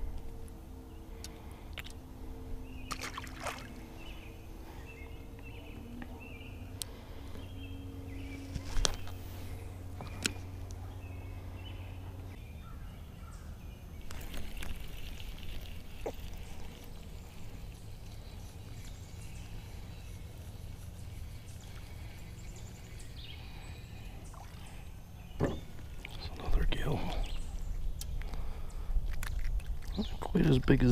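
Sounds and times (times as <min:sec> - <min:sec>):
faint bird calls: 0:00.0 - 0:30.5
low steady hum: 0:00.0 - 0:30.9.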